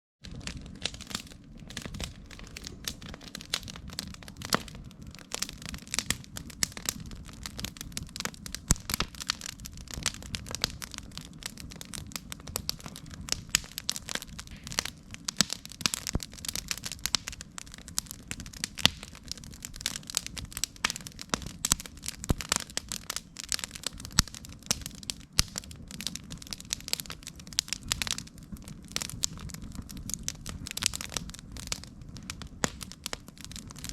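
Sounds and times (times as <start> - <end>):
campfire crackling and popping: 0.2 - 33.9.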